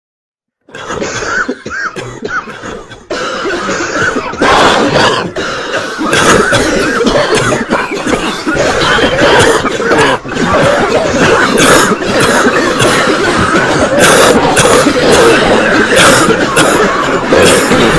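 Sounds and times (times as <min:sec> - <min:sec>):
crowd coughing: 0:00.7 - 0:17.9
throat-clearing: 0:00.7 - 0:17.9.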